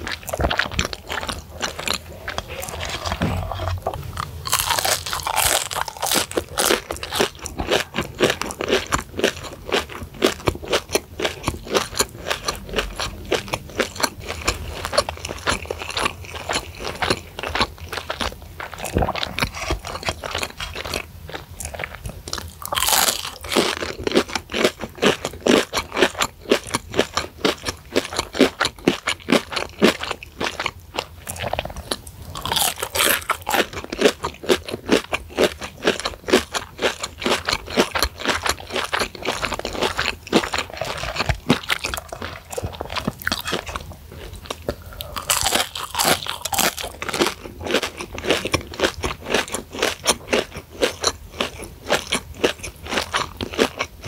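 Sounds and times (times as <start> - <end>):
crunching and chewing crispy food: 0.0 - 54.0.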